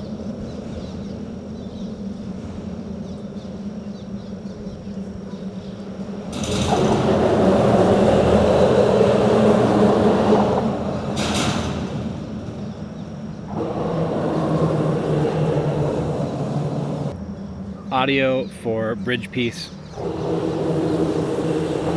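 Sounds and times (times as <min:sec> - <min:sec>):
vehicles passing with tyre rumble: 0:00.0 - 0:18.2, 0:19.5 - 0:21.9.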